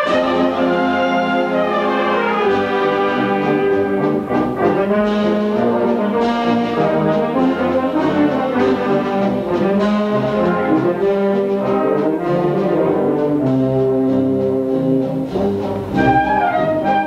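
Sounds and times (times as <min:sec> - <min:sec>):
brass held chords: 0:00.0 - 0:17.0
wind band playing: 0:00.0 - 0:17.0.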